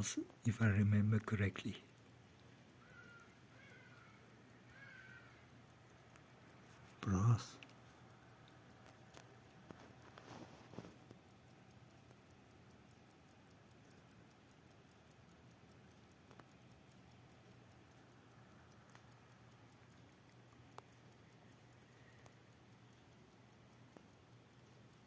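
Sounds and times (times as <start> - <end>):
clock ticking: 0.0 - 25.0.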